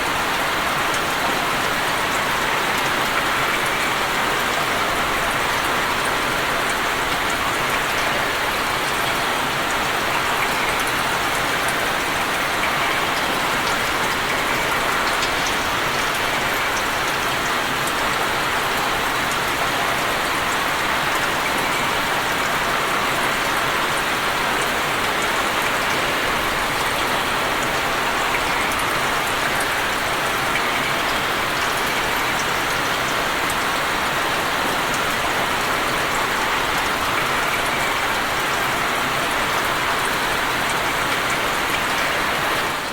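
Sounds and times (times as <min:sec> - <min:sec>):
rain pattering on water: 0:00.0 - 0:42.9.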